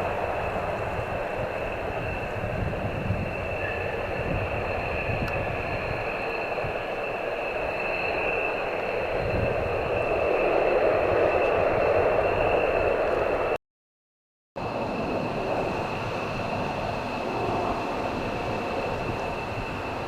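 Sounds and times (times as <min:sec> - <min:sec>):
jet engines roaring with fan whine: 0:00.0 - 0:13.6, 0:14.6 - 0:20.0.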